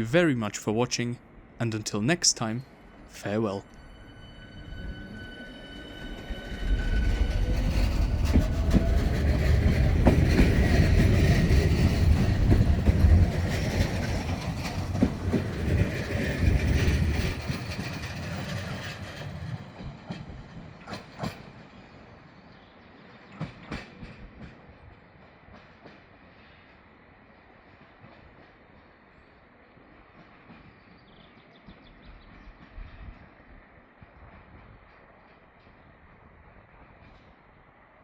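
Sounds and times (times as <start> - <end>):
train rumble and wheel clatter: 2.4 - 38.0.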